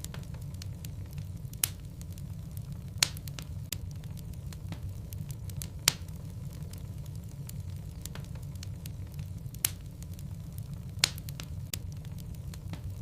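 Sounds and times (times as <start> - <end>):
fire crackling and popping: 0.0 - 13.0
fire rumbling in fireplace: 0.0 - 13.0.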